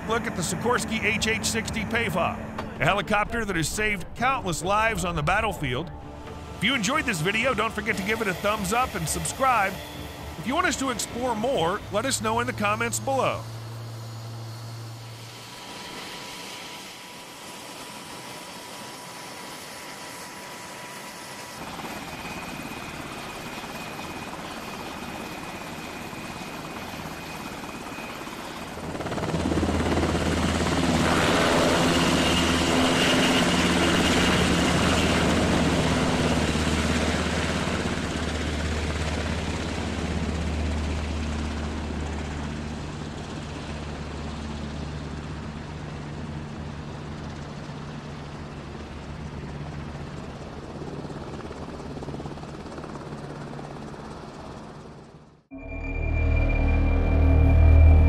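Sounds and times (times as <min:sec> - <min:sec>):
helicopter rotors and turbine whine: 0:00.0 - 0:58.0.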